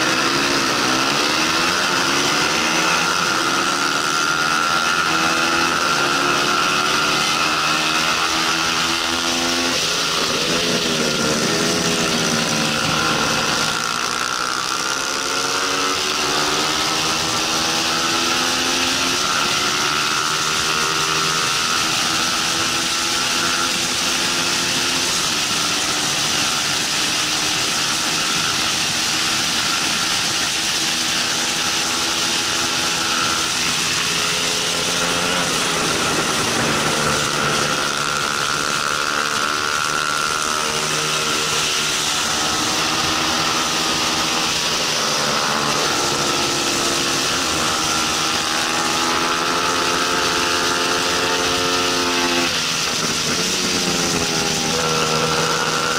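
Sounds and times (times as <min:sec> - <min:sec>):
motorcycle engine revving hard: 0:00.0 - 0:55.9.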